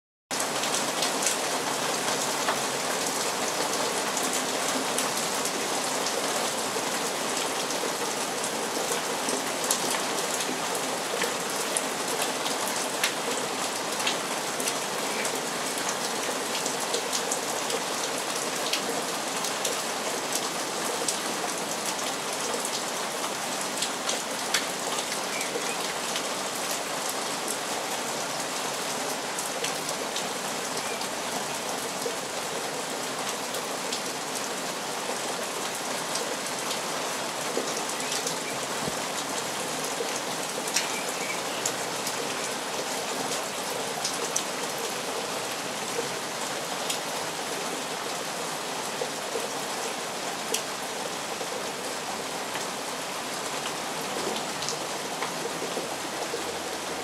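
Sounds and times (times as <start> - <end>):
steady rain falling: 0.3 - 57.0.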